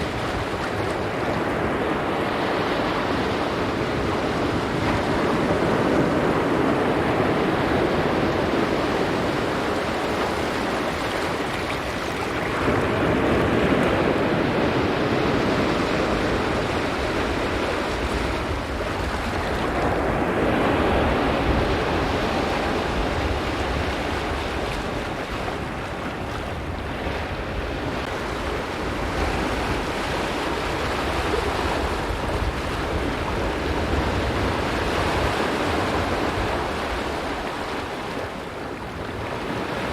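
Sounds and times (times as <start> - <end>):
waves breaking on rocky shore: 0.0 - 39.9.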